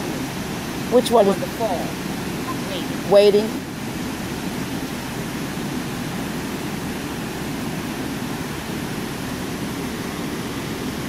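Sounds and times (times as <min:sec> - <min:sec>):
water pouring over waterfall: 0:00.0 - 0:11.0.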